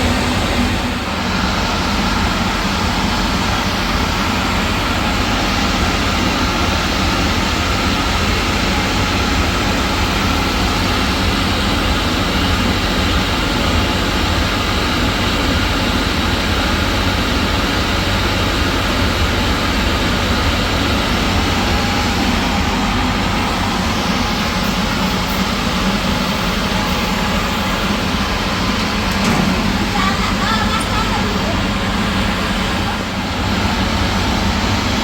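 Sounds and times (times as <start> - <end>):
heavy machine running: 0.0 - 35.0.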